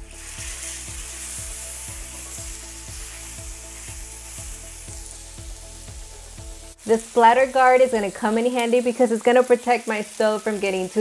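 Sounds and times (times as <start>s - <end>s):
steak sizzling in oil: 0.0s - 11.0s.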